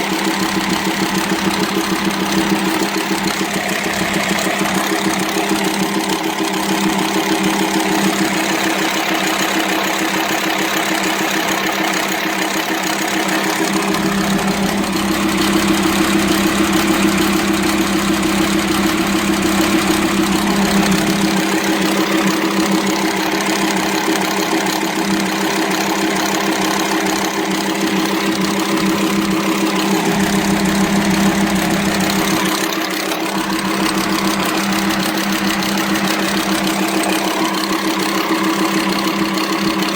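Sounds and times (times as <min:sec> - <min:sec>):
deep engine drone: 0:00.0 - 0:09.4, 0:13.1 - 0:39.9
diesel engine idling: 0:00.0 - 0:39.9
engine clatter: 0:00.0 - 0:39.9.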